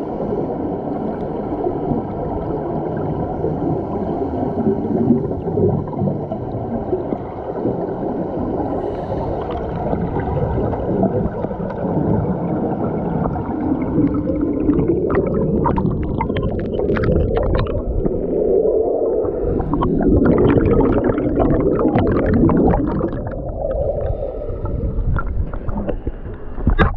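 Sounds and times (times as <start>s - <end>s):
bubbles fizzing and crackling: 0.0s - 26.9s
underwater bubbling of exhaled air: 0.0s - 26.9s.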